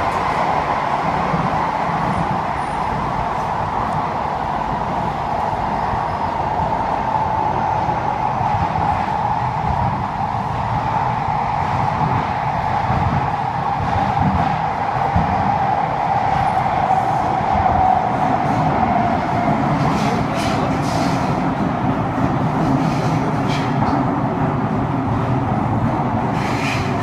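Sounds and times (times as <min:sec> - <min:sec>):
metro train rumbling and whining: 0:00.0 - 0:27.0.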